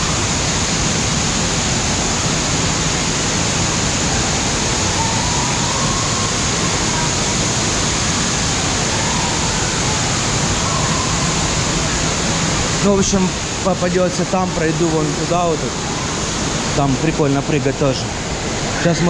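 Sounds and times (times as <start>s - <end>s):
running and splashing water: 0.0s - 19.0s.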